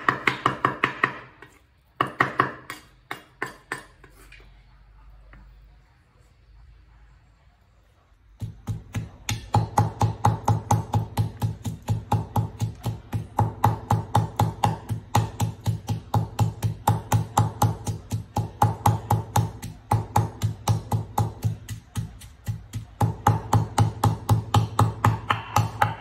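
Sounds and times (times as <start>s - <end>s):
pestle pounding in wooden mortar: 0.0s - 4.2s, 8.4s - 26.0s.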